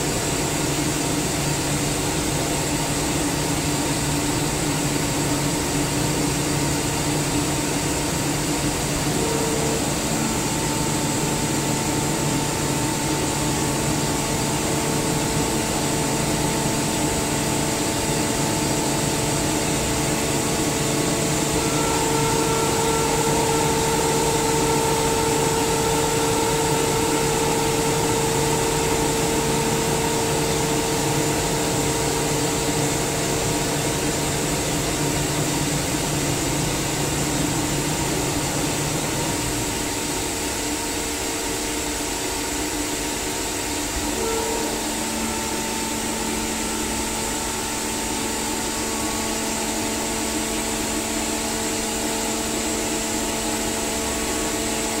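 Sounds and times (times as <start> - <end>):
air compressor whirring hum: 0.0 - 55.0.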